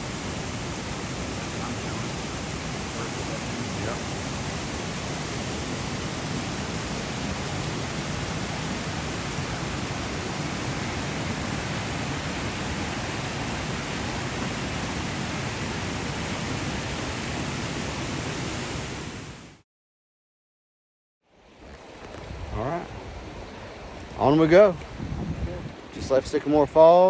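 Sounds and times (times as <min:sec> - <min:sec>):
waterfall rushing: 0:00.0 - 0:19.4, 0:21.6 - 0:27.0.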